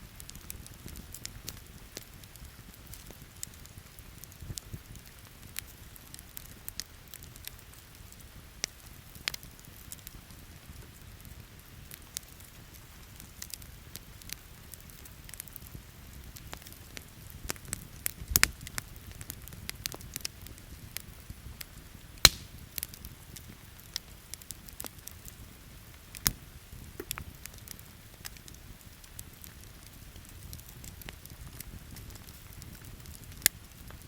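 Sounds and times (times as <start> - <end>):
campfire crackling: 0.0 - 34.0
loud fire pops: 0.1 - 34.0.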